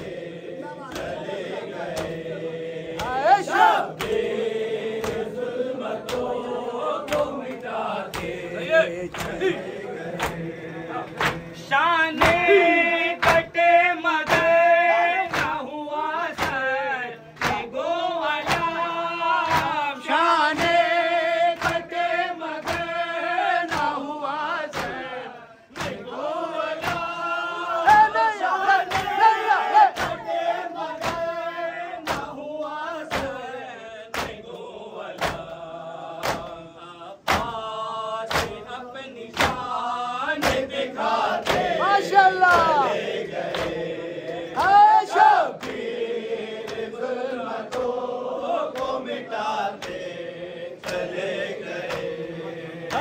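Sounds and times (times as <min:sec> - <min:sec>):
men chanting in unison: 0:00.0 - 0:53.0
rhythmic chest-beating slaps: 0:00.0 - 0:53.0.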